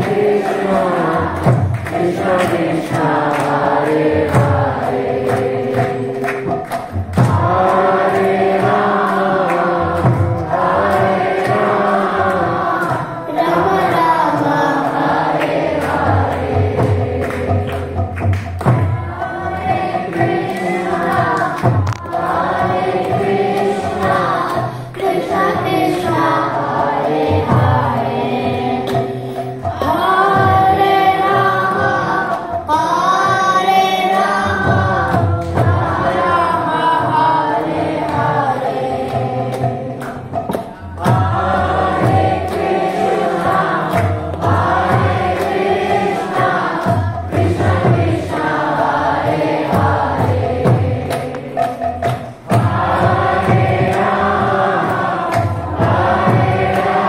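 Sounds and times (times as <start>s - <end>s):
children singing in unison: 0.0s - 57.0s
regular clicking beat: 0.0s - 57.0s.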